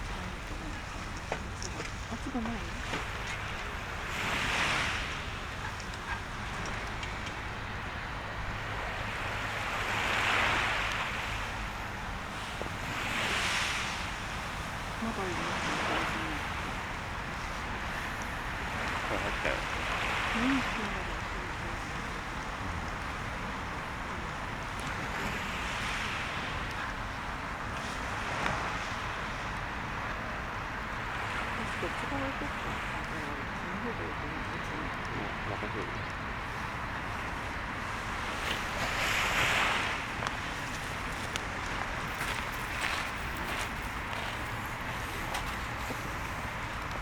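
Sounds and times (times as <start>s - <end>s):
sea waves washing onto shore: 0.0s - 47.0s
wind buffeting microphone: 0.0s - 47.0s.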